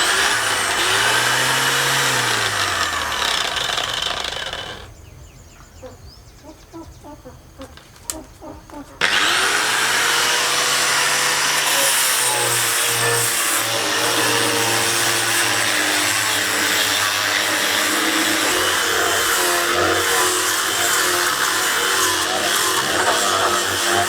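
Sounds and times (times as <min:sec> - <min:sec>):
power tool motor whirring: 0:00.0 - 0:04.9, 0:09.0 - 0:24.0.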